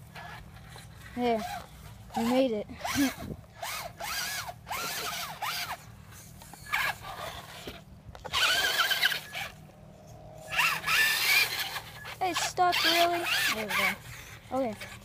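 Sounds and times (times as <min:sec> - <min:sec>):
rc truck motor whining: 0:00.0 - 0:15.0.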